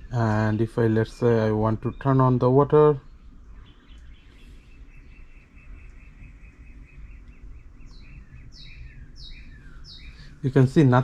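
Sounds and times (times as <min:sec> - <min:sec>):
bird chirping: 0:00.0 - 0:11.0
low background rumble: 0:00.0 - 0:11.0.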